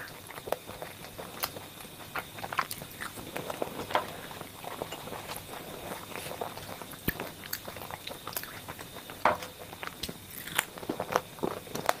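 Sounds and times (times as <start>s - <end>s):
person chewing crunchy snack: 0.0s - 12.0s.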